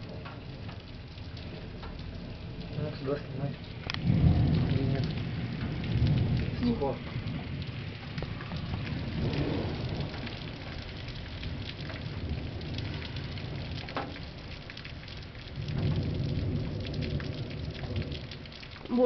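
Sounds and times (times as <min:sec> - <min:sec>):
heavy rain with drops ticking: 0:00.0 - 0:19.0
low rumble of thunder: 0:00.0 - 0:19.0.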